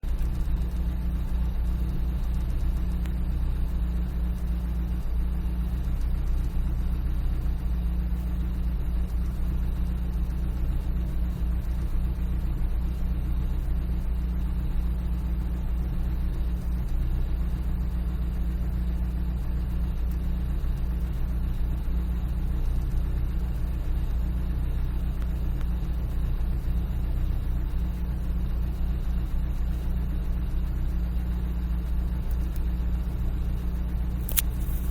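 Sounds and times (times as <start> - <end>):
engine idling roughly: 0.0 - 34.9.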